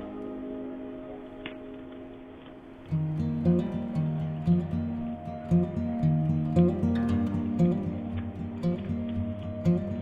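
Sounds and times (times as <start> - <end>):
soft acoustic guitar music: 0.0 - 10.0.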